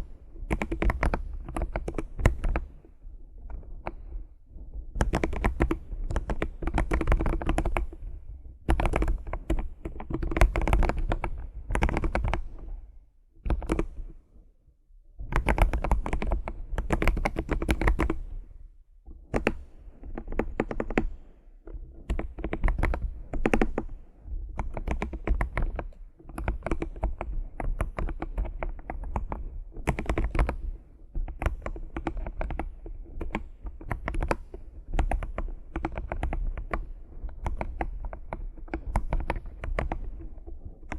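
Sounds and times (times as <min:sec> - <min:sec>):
fast typing on keyboard: 0:00.0 - 0:02.8, 0:04.9 - 0:12.8, 0:13.4 - 0:14.2, 0:15.3 - 0:18.4, 0:19.2 - 0:21.3, 0:21.9 - 0:40.9.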